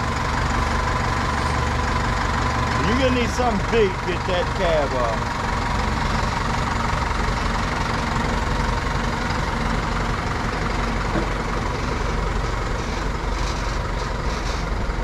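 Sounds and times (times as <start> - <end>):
wheel loader diesel engine running: 0.0 - 15.0.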